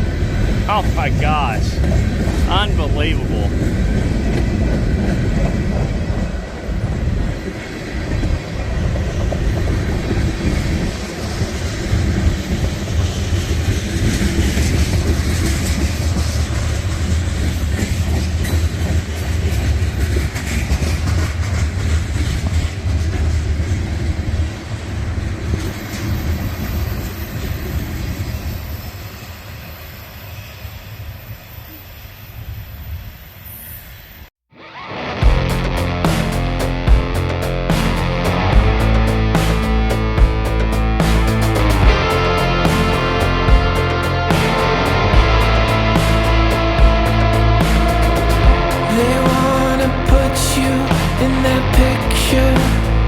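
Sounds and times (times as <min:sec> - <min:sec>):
freight train rumbling: 0:00.0 - 0:31.4, 0:35.4 - 0:53.0.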